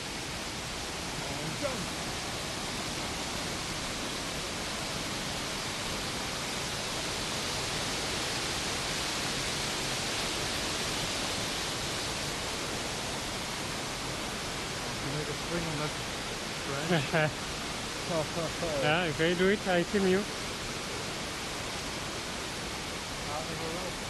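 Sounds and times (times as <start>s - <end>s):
waterfall rushing into a pool: 0.0s - 24.0s.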